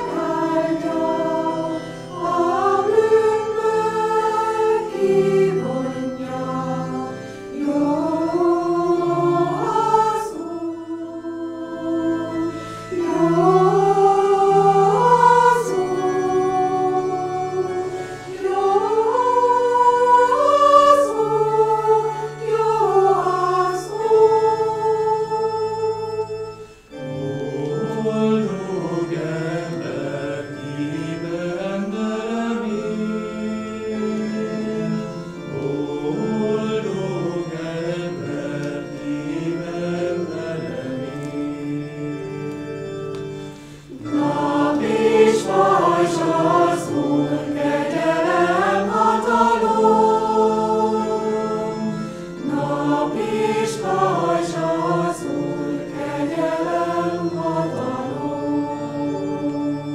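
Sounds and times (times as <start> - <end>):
mixed choir singing: 0.0 - 42.7, 43.6 - 59.9.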